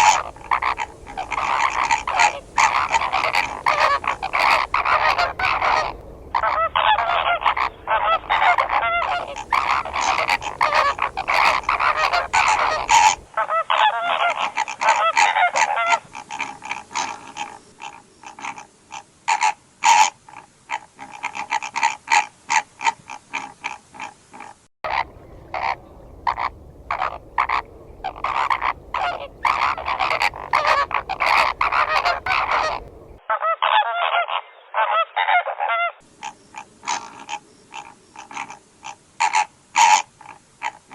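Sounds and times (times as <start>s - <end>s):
flamingos honking: 0.0s - 40.9s.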